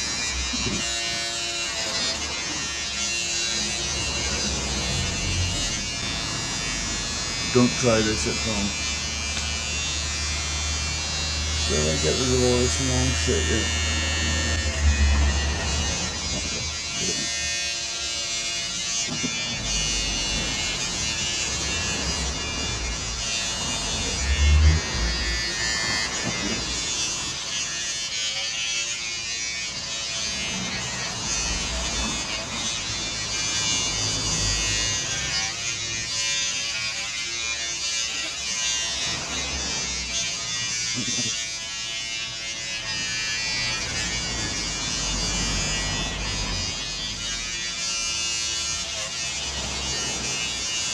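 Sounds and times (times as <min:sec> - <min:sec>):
electric hair clippers buzzing: 0:00.0 - 0:50.9.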